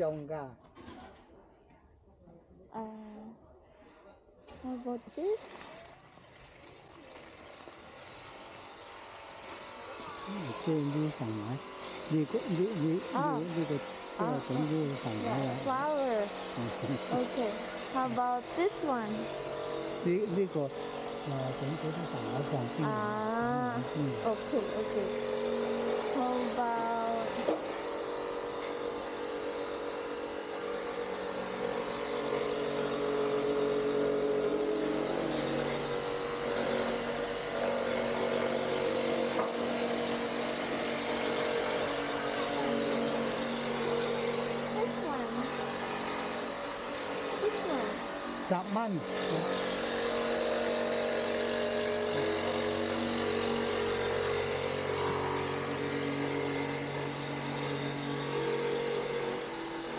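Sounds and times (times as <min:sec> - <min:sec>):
street traffic engine hum: 0:06.3 - 0:59.9.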